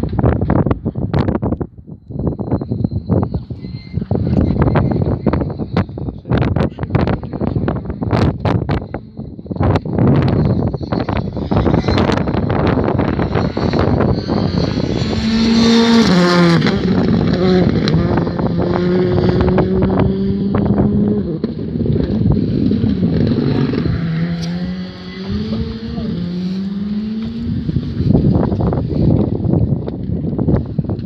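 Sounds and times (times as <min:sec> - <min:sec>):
wind buffeting microphone: 0:00.0 - 0:31.0
rally car engine revving: 0:03.4 - 0:30.4.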